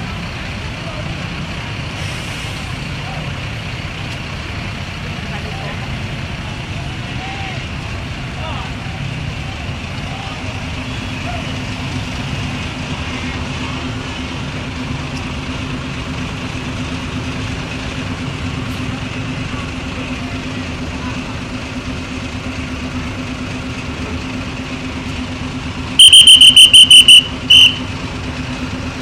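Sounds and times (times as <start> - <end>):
bus engine idling: 0.0 - 29.0.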